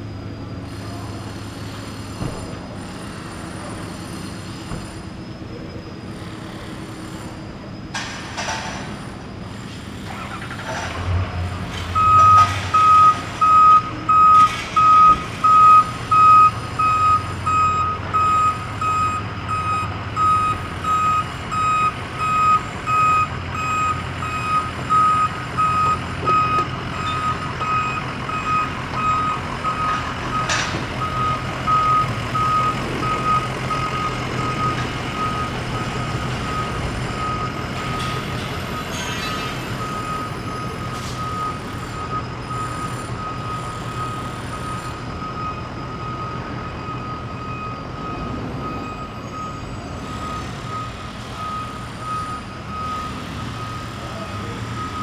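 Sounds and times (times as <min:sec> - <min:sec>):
reversing alarm beeping: 0:10.3 - 0:55.0.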